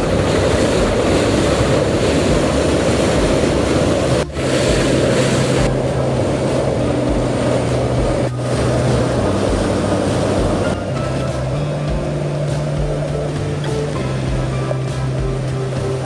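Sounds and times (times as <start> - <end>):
low steady hum: 0.0 - 16.0
river rushing: 0.0 - 16.0
wind buffeting microphone: 0.0 - 16.0.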